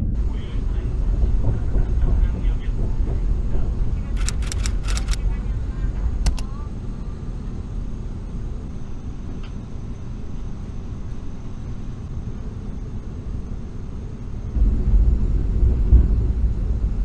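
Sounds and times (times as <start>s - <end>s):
train cabin low rumble: 0.0s - 17.0s.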